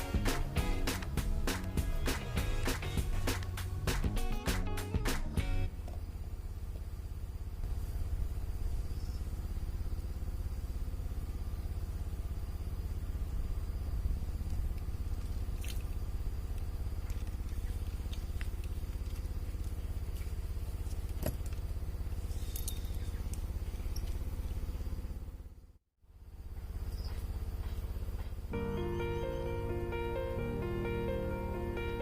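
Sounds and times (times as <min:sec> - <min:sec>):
small engine running: 0:00.0 - 0:32.0.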